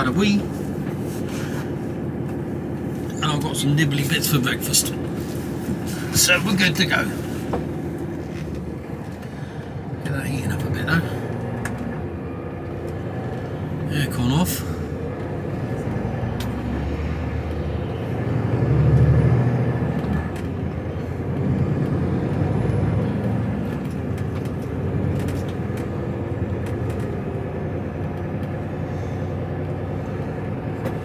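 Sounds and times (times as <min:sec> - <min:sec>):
lorry diesel engine running: 0:00.0 - 0:31.0.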